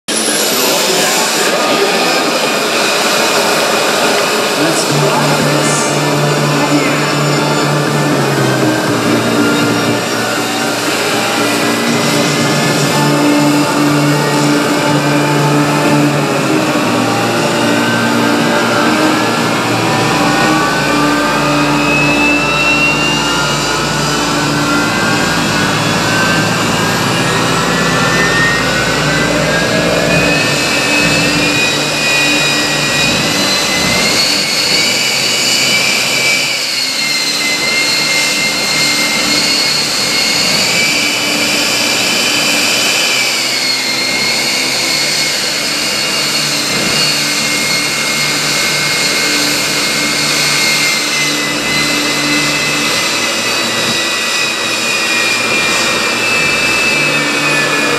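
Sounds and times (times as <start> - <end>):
jet engine turbine roar: 0.1 - 57.9.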